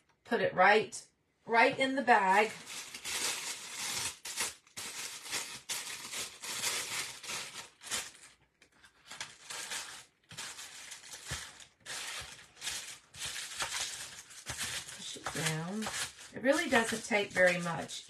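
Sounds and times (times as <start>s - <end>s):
plastic bag crinkling: 2.2s - 18.0s.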